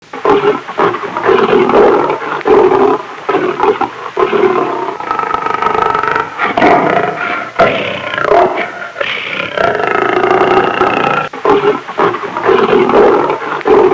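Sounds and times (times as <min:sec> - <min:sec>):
lion roaring: 0:00.1 - 0:13.9.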